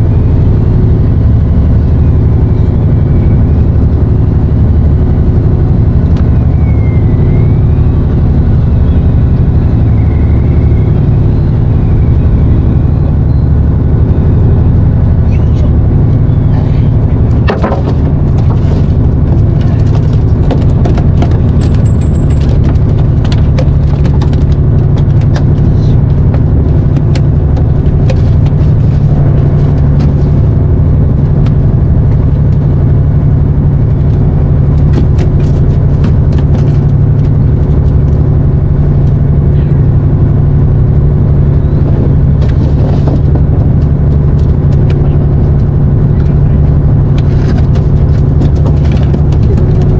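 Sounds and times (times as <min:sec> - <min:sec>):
boat engine humming: 0:00.0 - 0:49.9.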